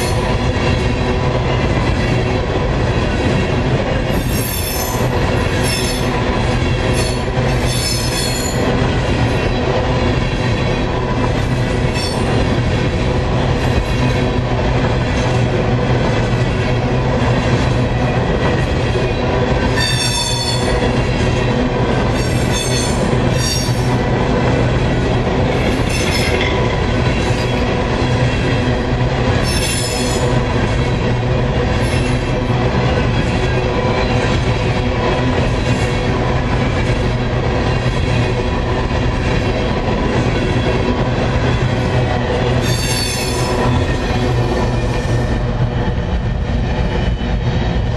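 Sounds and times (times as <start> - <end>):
freight cars rumbling on rail: 0.0 - 47.9.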